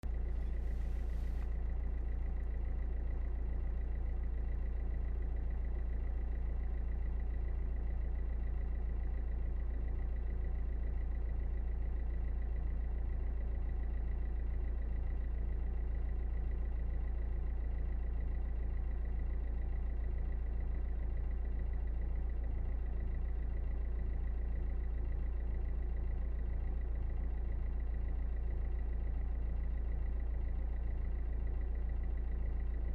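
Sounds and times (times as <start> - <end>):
car engine drone inside cabin: 0.0 - 32.9.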